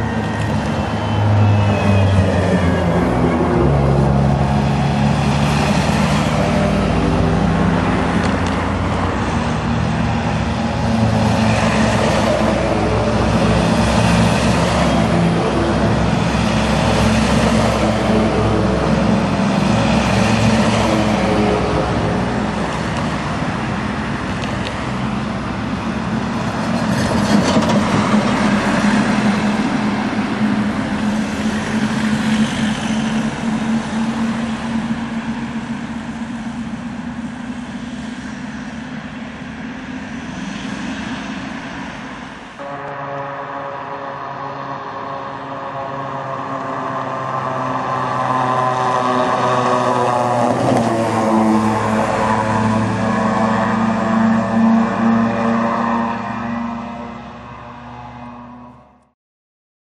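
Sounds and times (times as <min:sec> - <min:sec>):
military trucks driving past: 0:00.0 - 0:59.0.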